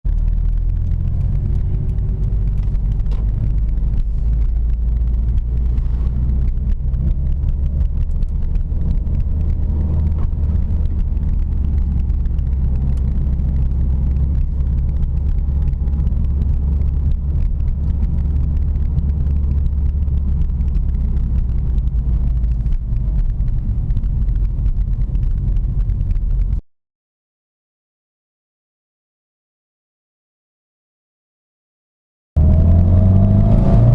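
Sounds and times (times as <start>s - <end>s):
car engine rumbling: 0.0s - 26.6s, 32.4s - 33.9s.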